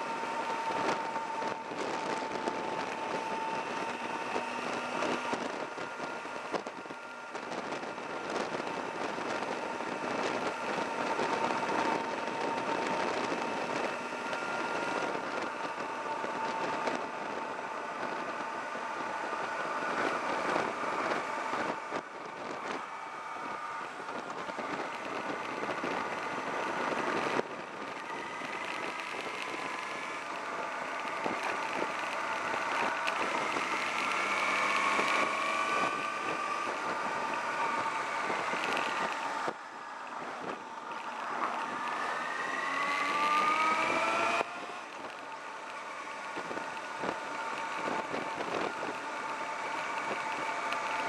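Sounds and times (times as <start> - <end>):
motorcycle engine revving: 0.0 - 51.0
wind noise: 0.0 - 51.0.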